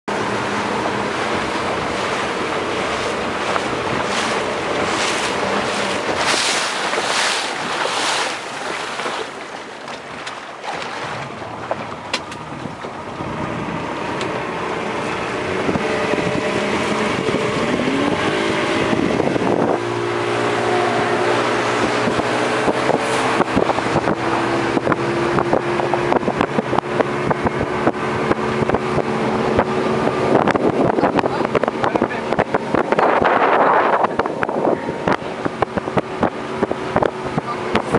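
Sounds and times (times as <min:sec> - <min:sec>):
boat engine: 0:00.0 - 0:37.9
water splashing against hull: 0:00.1 - 0:37.9
wind buffeting microphone: 0:00.1 - 0:37.9.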